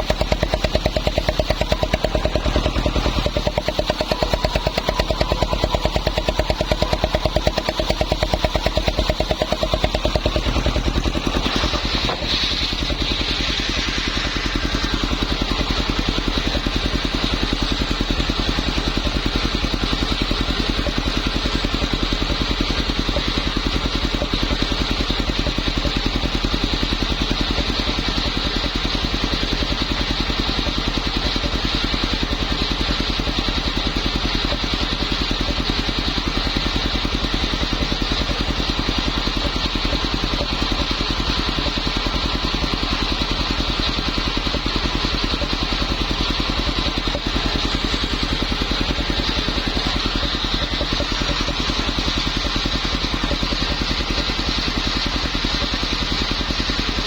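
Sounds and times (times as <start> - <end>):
circular saw motor running: 0.0 - 57.0.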